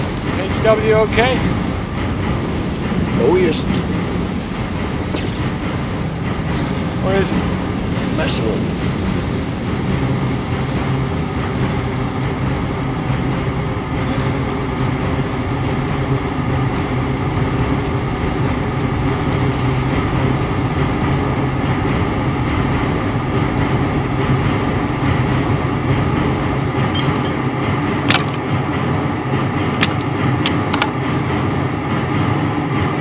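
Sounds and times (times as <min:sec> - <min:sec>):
burning gusher rushing roar: 0:00.0 - 0:33.0
low hum: 0:00.0 - 0:33.0.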